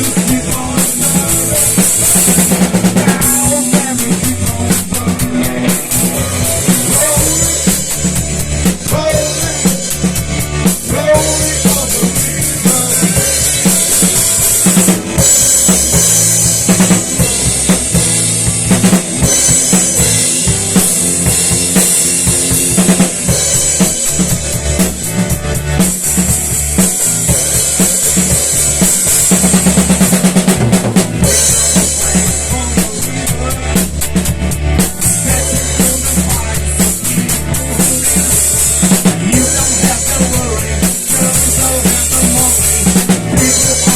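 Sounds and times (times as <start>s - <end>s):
rapid drum hits: 0.0s - 43.9s
rock music: 0.0s - 43.9s.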